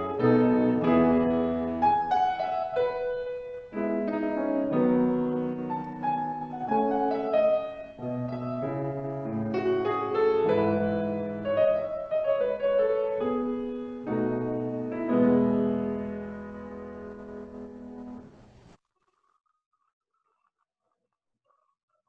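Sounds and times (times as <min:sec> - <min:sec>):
slow piano chords: 0:00.0 - 0:18.8.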